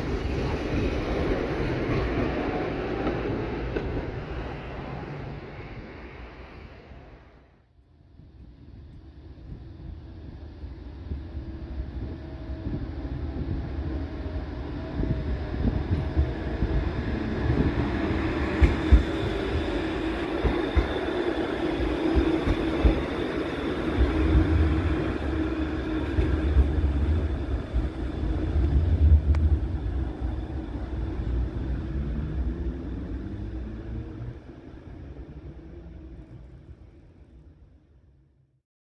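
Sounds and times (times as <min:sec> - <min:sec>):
tram rumbling along track: 0:00.0 - 0:38.2.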